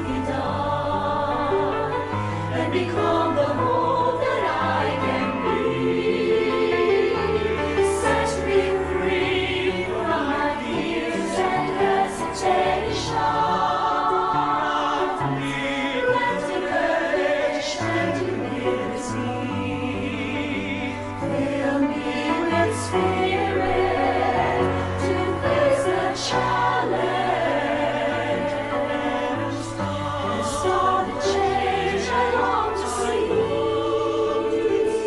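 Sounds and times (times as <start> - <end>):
choir singing a slow prayer song: 0.0 - 35.0.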